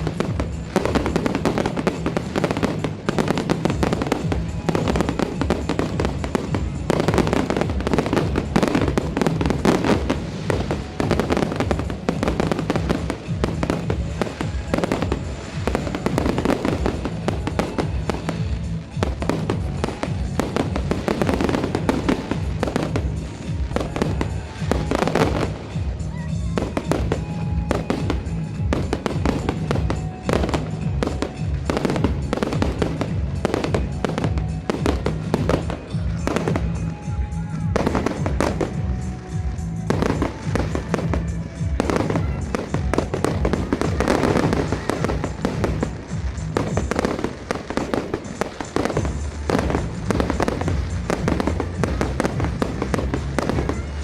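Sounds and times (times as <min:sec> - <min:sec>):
fireworks bangs and crackles: 0:00.0 - 0:54.0
music: 0:00.0 - 0:54.0.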